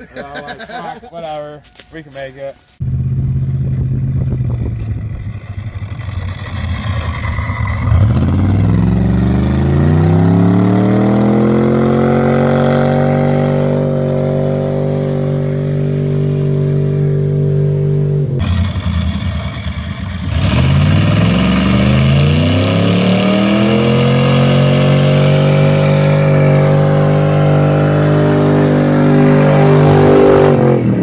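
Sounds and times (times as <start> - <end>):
car engine revving: 2.8 - 31.0.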